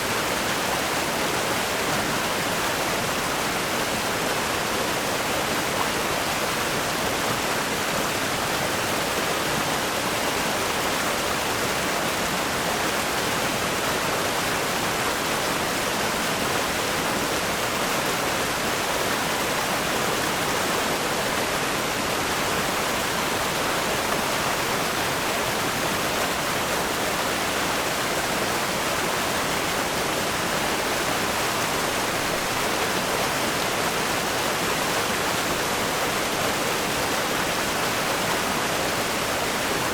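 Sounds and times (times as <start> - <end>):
river rapids rushing over rocks: 0.0 - 39.9.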